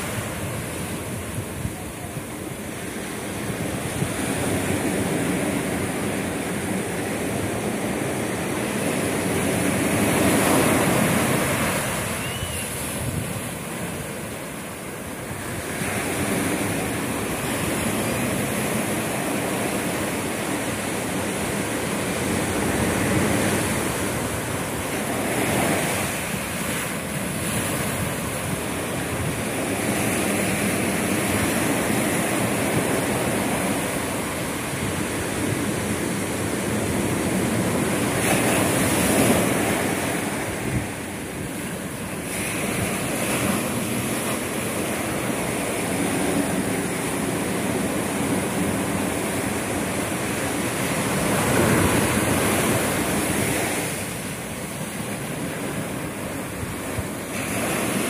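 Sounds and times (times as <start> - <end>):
surf washing over rocks: 0.0 - 58.0.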